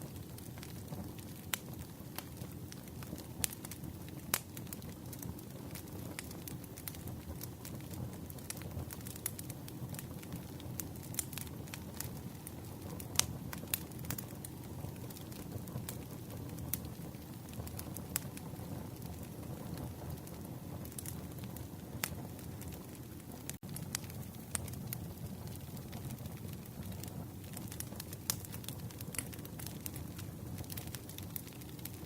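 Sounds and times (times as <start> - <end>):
low rumble of flames: 0.0 - 32.0
campfire pops and snaps: 0.1 - 32.0.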